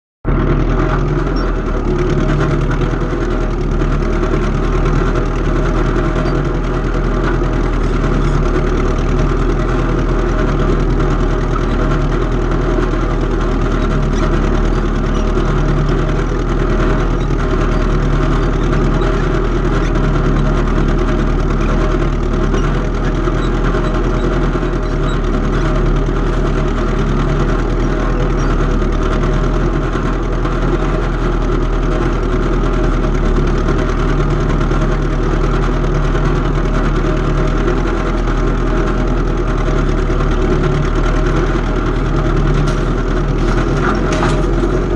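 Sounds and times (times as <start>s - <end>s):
old engine running steadily: 0.2s - 44.9s.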